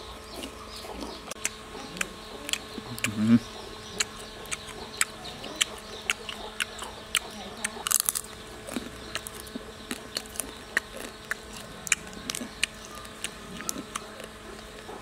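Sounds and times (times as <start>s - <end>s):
faint steady hum: 0.0s - 15.0s
crunching clicks of chewing: 0.3s - 15.0s.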